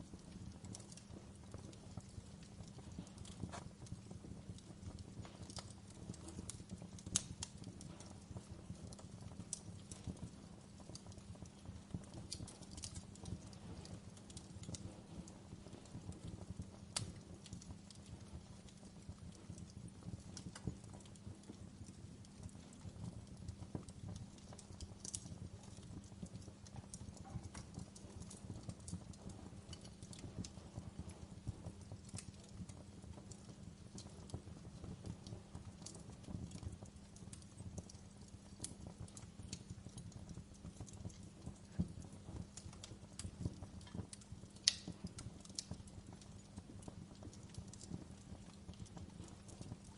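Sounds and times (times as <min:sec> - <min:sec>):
logs crackling in fireplace: 0:00.0 - 0:49.9
low steady rumble of fire: 0:00.0 - 0:49.9.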